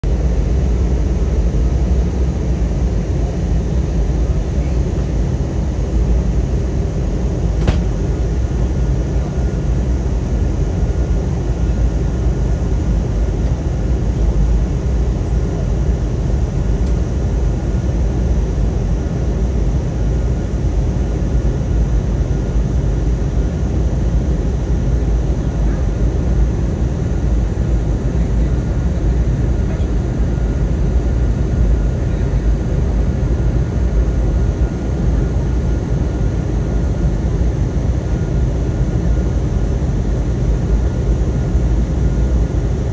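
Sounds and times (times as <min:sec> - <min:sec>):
airplane cabin drone: 0:00.0 - 0:42.9
faint steady hums: 0:00.0 - 0:42.9.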